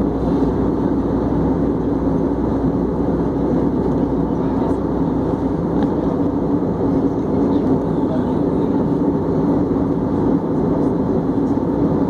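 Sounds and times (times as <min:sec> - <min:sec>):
airplane cabin engine rush: 0:00.0 - 0:12.0
constant low hum: 0:00.0 - 0:12.0.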